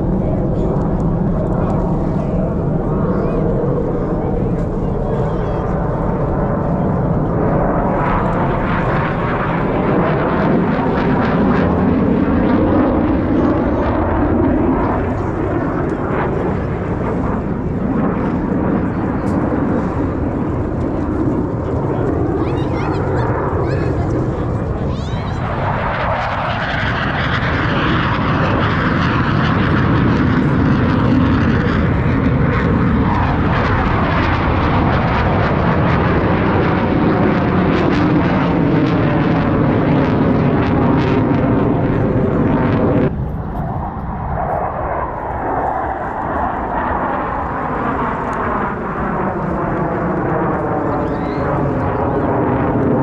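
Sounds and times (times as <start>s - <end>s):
jets passing overhead: 0.0s - 53.0s.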